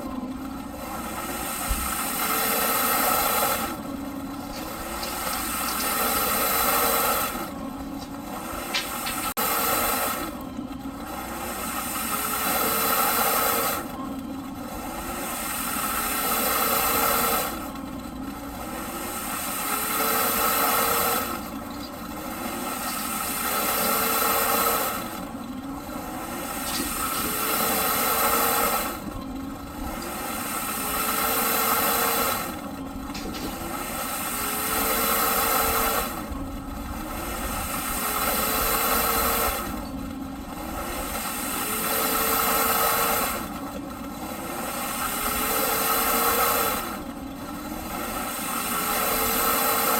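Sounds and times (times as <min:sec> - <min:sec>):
vacuum cleaner running: 0:00.0 - 0:43.6, 0:44.2 - 0:49.9.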